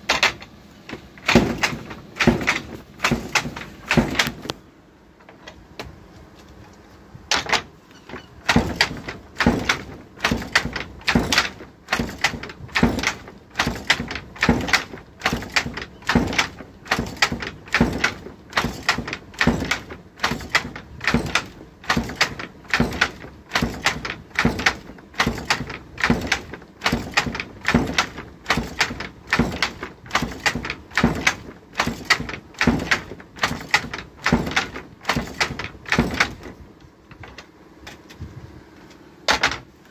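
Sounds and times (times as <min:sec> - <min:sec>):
handloom wooden clacks: 0:00.0 - 0:04.6, 0:07.3 - 0:38.1, 0:39.3 - 0:39.9.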